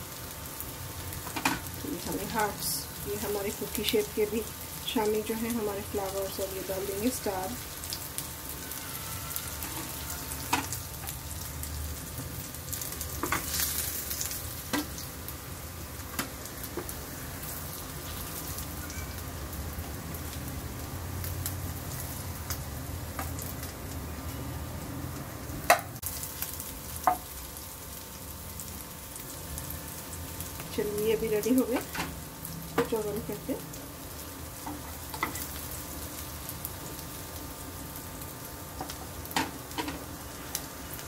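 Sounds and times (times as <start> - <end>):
oil sizzling in a frying pan: 0.0 - 41.0.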